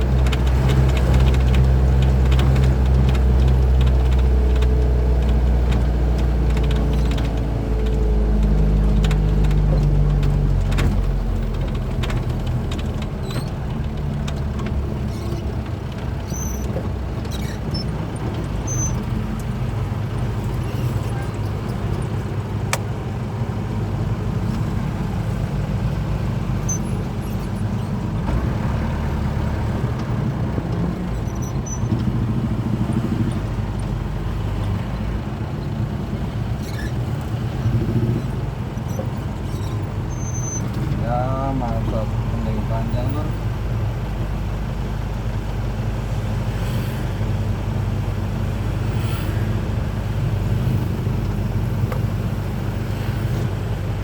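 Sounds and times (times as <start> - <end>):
road noise: 0.0 - 54.0
truck engine running: 0.0 - 54.0.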